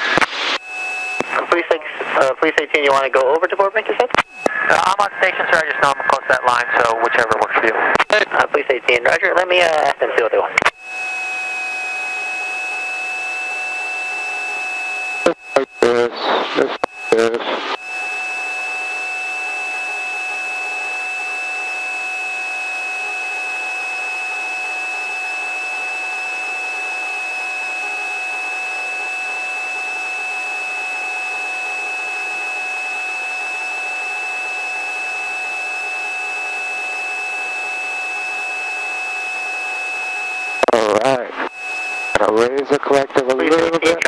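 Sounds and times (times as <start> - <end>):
helicopter cabin whine: 0.0 - 44.0.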